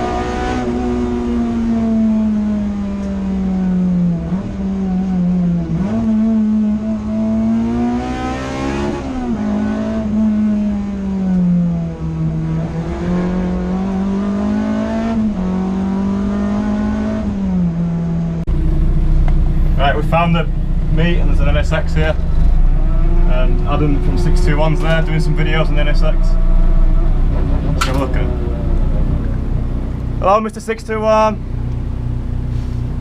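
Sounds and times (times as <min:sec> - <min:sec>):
car engine accelerating through gears: 0:00.0 - 0:30.3.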